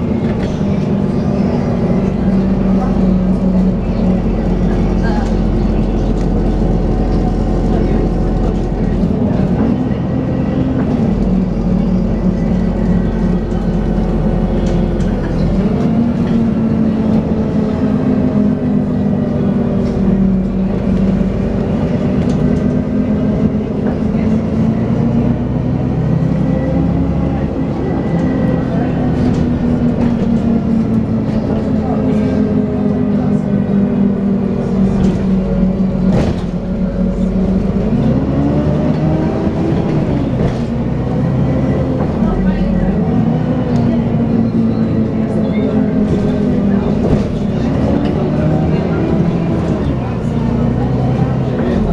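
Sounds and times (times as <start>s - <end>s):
bus engine whine: 0.0s - 51.9s.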